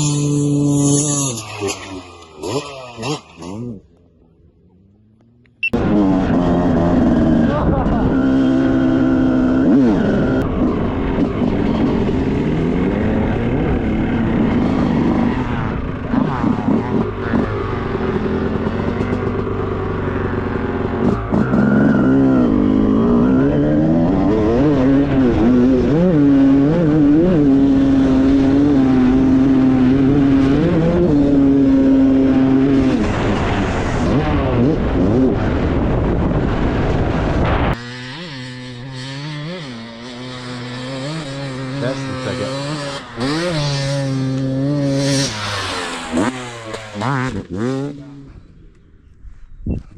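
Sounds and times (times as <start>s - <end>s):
dirt bike engine revving: 0.0s - 4.1s, 4.7s - 49.0s.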